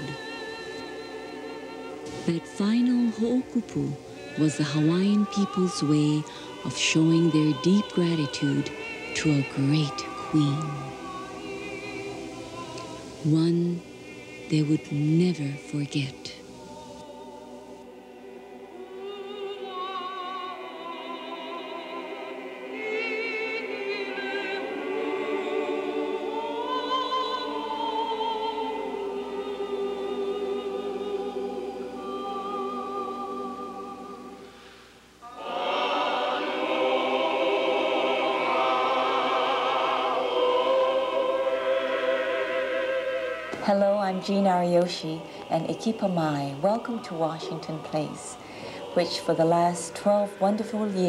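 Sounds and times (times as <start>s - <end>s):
choir singing with vibrato: 0.0s - 51.0s.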